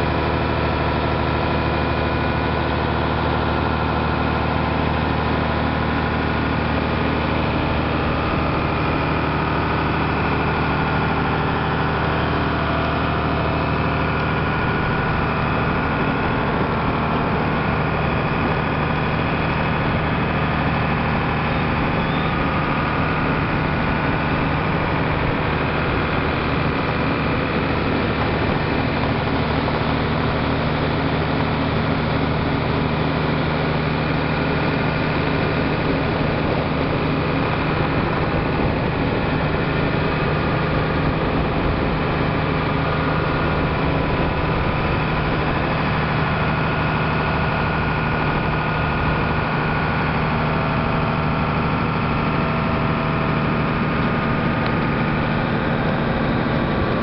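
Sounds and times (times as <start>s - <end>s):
boat engine droning: 0.0s - 57.0s
rush of water from wake: 0.0s - 57.0s.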